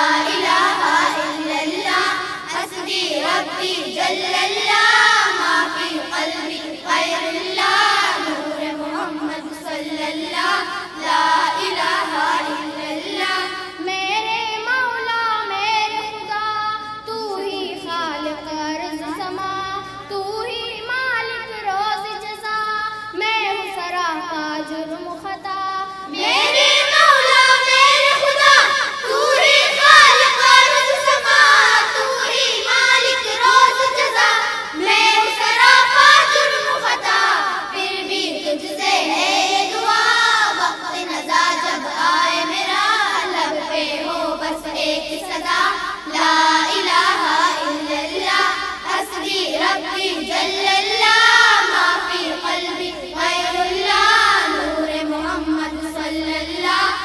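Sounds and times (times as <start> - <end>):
children singing a hymn in unison: 0.0 - 57.0.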